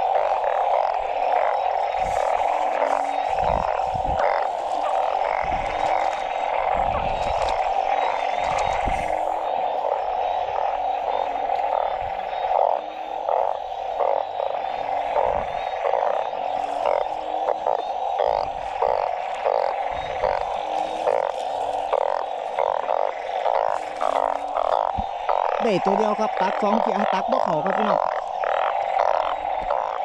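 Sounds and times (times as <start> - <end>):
chorus of frogs calling: 0.0 - 30.0.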